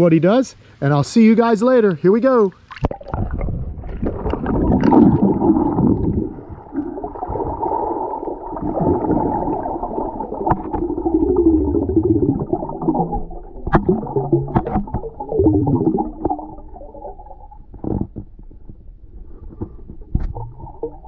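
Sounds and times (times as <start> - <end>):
underwater gurgling and bubbling: 2.8 - 21.0.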